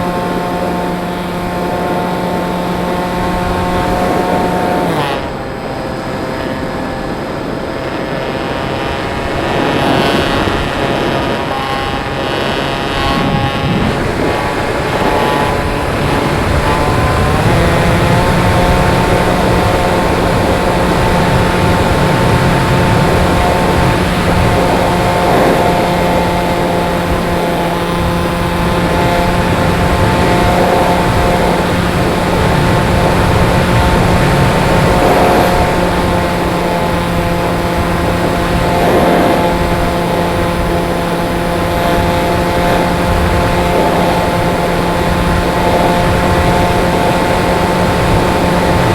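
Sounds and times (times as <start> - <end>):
propeller motor whine: 0.0 - 48.9.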